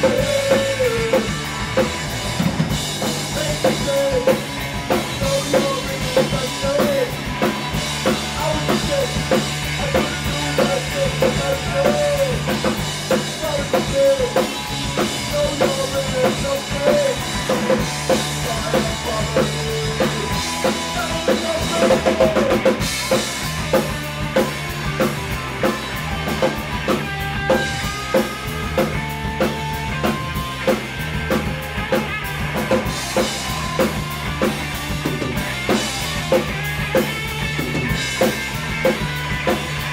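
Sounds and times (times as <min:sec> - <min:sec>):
bass guitar: 0:00.0 - 0:39.9
drum kit beat: 0:00.0 - 0:39.9
electric guitar: 0:00.0 - 0:39.9.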